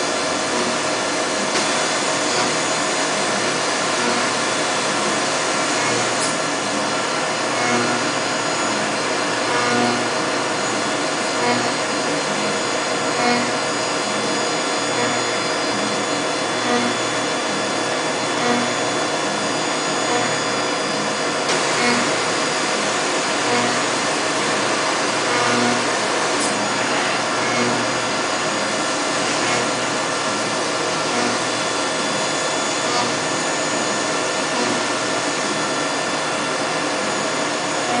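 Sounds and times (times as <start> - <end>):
milling machine cutting metal: 0.0 - 38.0
steady machine tones: 0.0 - 38.0.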